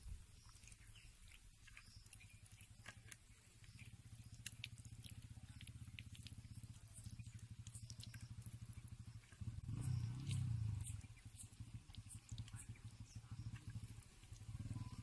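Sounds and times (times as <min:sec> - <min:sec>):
faint low pulsing rumble: 0:00.0 - 0:15.0.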